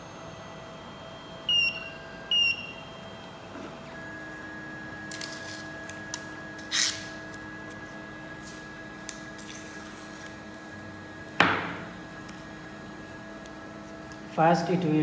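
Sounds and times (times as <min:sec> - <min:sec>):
motor whine: 0:00.0 - 0:15.0.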